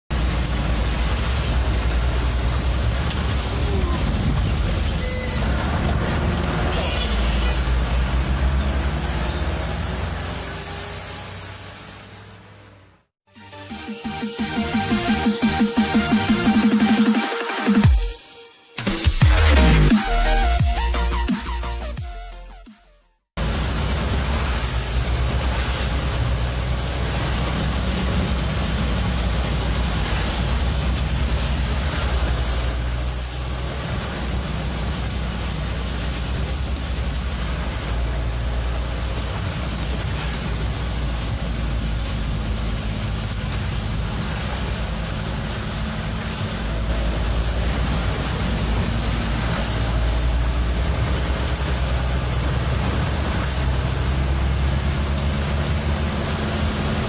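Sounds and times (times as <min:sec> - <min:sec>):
road and rain noise: 0:00.1 - 0:13.1, 0:23.4 - 0:57.0
diesel engine drone: 0:00.1 - 0:18.0, 0:23.4 - 0:57.0.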